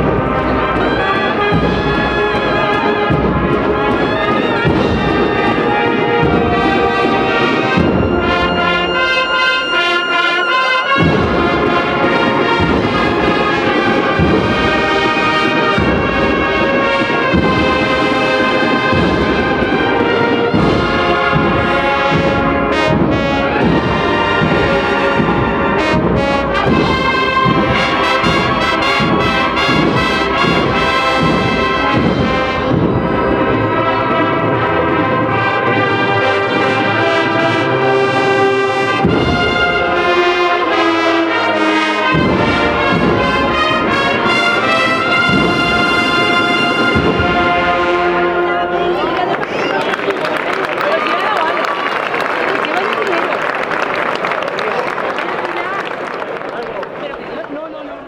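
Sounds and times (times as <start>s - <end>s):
marching drums: 0.0s - 54.1s
brass band marching music: 0.0s - 57.7s.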